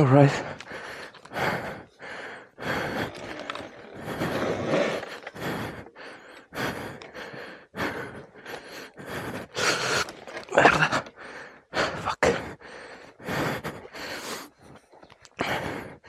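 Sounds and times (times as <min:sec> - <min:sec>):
man panting hard: 0:00.2 - 0:16.0.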